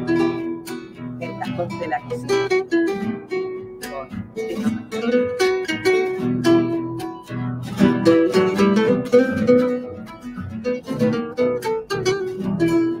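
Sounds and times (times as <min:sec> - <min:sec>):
acoustic guitar plucking and strumming: 0:00.0 - 0:13.0.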